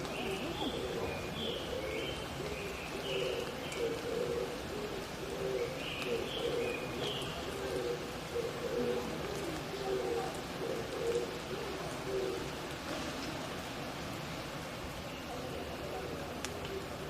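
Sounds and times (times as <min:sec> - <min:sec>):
doves cooing: 0:00.0 - 0:17.0
hiss of wet forest: 0:00.0 - 0:17.0.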